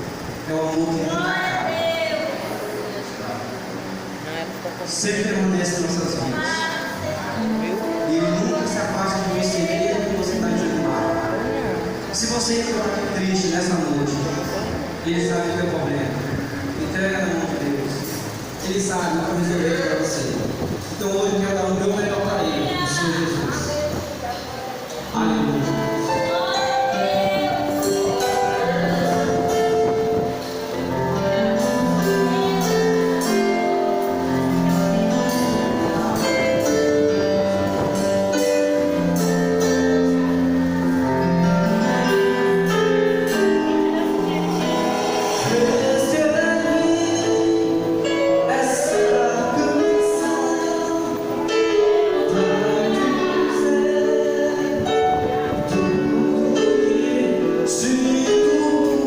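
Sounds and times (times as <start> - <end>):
gospel band playing: 0.0 - 59.0
keyboard and synth chords: 4.8 - 59.0.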